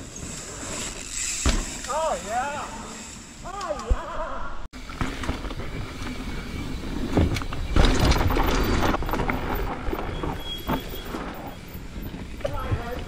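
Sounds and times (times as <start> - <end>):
bike tyres rolling on dirt: 0.0 - 3.5, 4.8 - 13.0
bike rattling: 0.0 - 4.1, 4.8 - 13.0.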